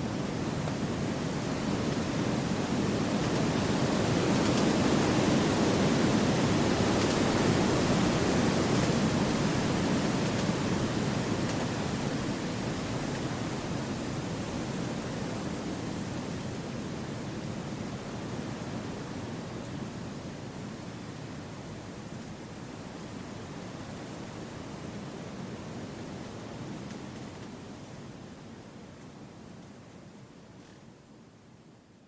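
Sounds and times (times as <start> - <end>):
wind rushing through trees: 0.0 - 31.6.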